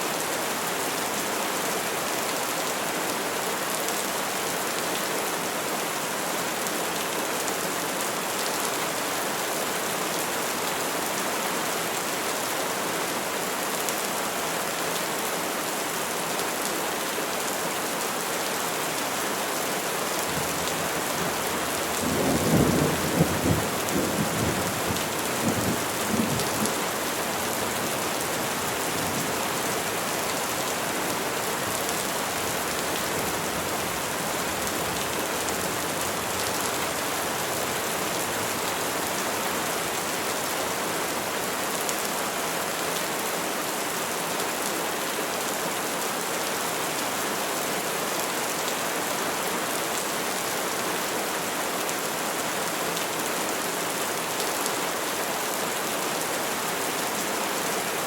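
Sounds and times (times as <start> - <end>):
steady rain falling on trees: 0.0 - 58.0.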